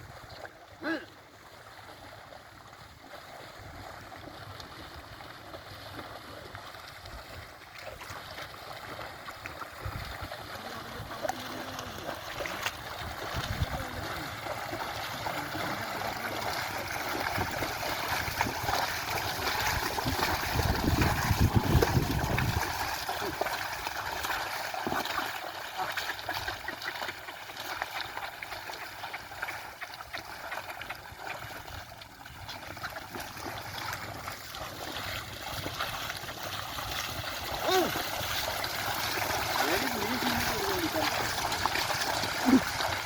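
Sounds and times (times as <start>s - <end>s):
mud and water sloshing: 0.0s - 43.0s.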